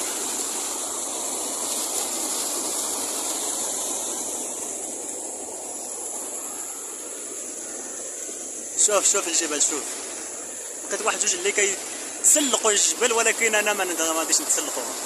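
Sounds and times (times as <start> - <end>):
water pouring over weir: 0.0 - 15.0.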